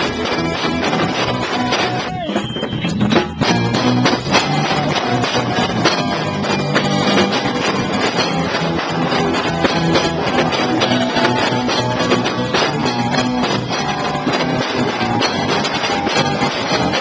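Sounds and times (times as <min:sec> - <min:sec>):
drums and cymbals struck: 0:00.0 - 0:17.0
live band playing: 0:00.0 - 0:17.0.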